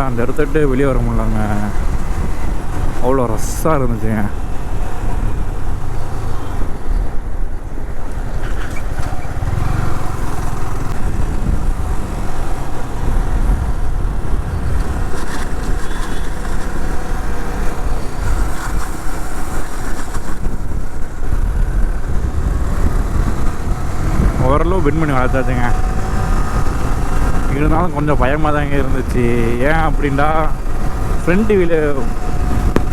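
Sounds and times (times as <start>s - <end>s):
motorcycle engine rumble: 0.0s - 32.9s.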